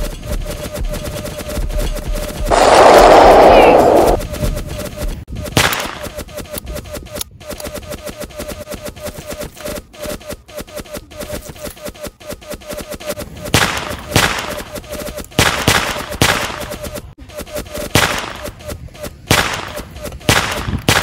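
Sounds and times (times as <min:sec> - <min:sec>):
rapid machine-gun fire: 0:00.0 - 0:21.0.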